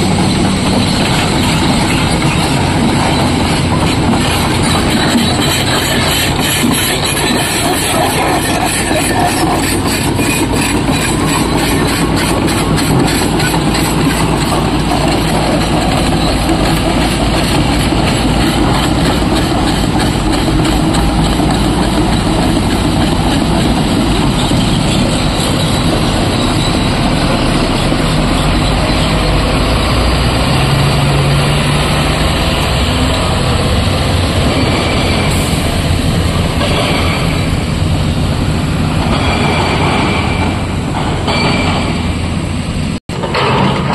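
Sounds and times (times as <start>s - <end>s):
dump truck engines: 0.0s - 43.9s
excavator engine and hydraulics: 0.0s - 43.9s.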